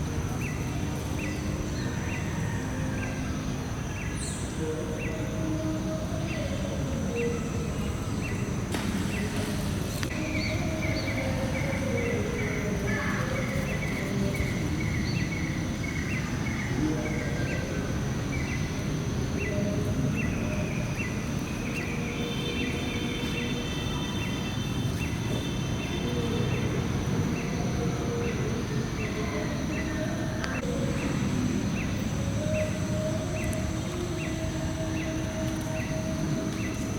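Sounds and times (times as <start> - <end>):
insect drone: 0.0 - 36.9.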